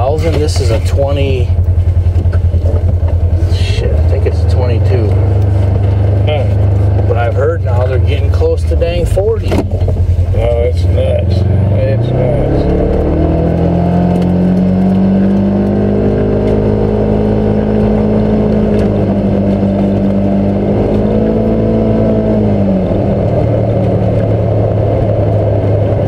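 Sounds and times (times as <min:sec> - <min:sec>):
utility vehicle engine running: 0:00.0 - 0:26.0.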